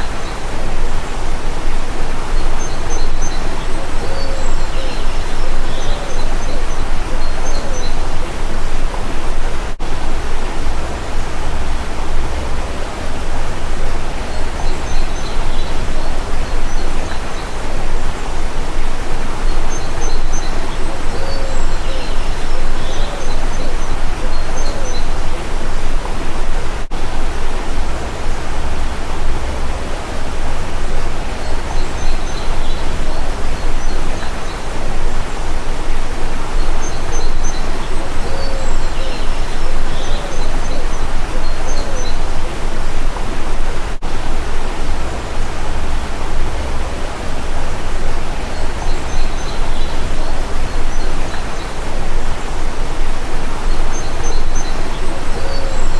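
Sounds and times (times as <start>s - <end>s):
faint bird chirps: 0.0s - 43.6s, 46.5s - 55.9s
stream rushing: 0.0s - 55.9s.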